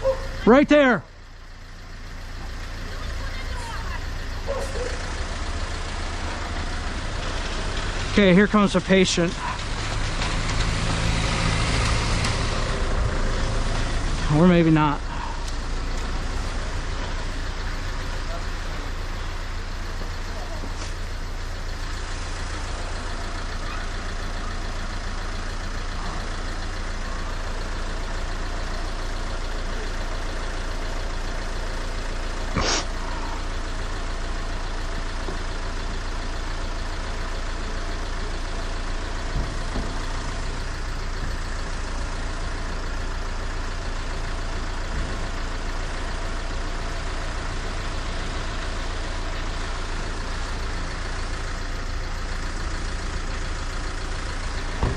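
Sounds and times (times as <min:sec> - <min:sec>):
van engine idling: 0:00.0 - 0:54.9.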